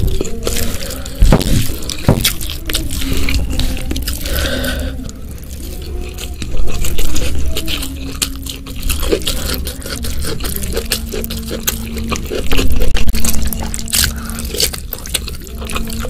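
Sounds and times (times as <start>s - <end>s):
fingers squishing food: 0.0s - 16.0s
wet chewing and lip-smacking: 0.0s - 16.0s.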